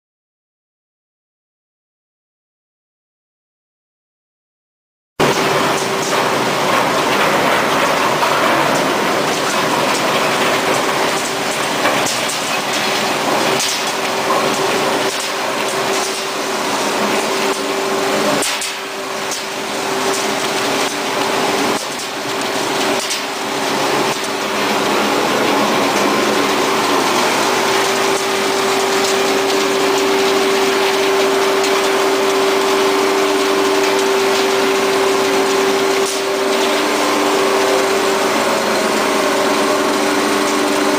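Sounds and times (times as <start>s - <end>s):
wood shredder machine din: 5.2s - 40.9s.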